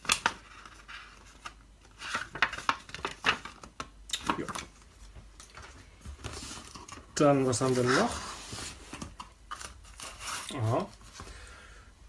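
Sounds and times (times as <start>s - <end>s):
paper pages rustling: 0.0s - 11.3s.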